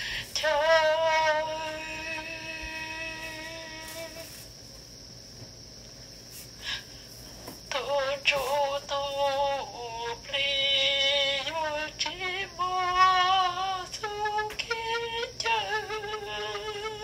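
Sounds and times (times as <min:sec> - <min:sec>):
woman singing unaccompanied: 0:00.0 - 0:04.5, 0:07.7 - 0:17.0.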